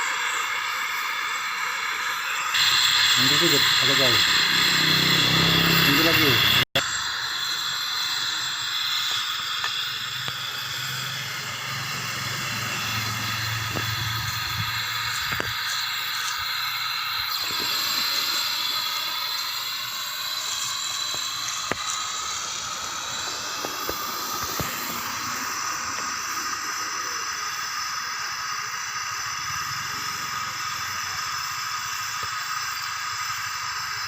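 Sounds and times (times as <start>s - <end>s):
welding hiss: 0.0s - 34.0s.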